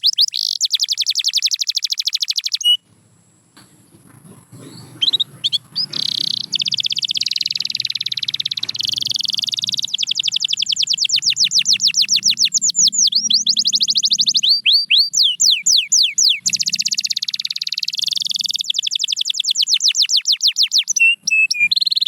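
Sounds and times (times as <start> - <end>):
canary singing: 0.0 - 3.0, 3.6 - 22.0.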